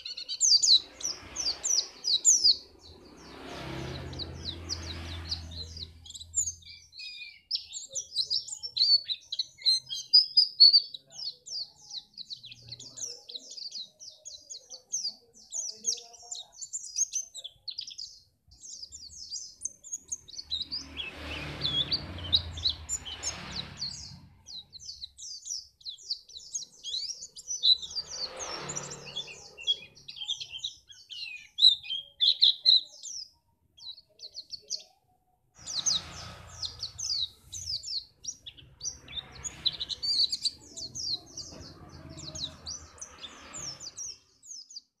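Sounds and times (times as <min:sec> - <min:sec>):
bird twittering song: 0:00.0 - 0:45.0.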